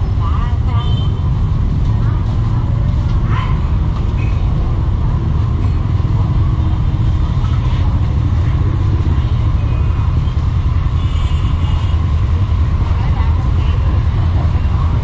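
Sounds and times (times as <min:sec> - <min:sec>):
motorbike traffic rumble: 0:00.0 - 0:15.0.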